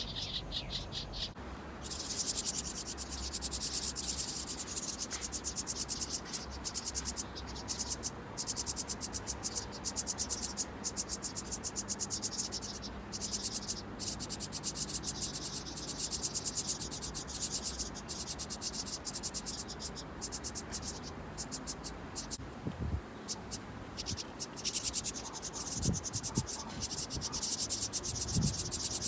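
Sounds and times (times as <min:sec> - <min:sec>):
crickets chirping: 0:01.4 - 0:22.4, 0:23.2 - 0:29.0.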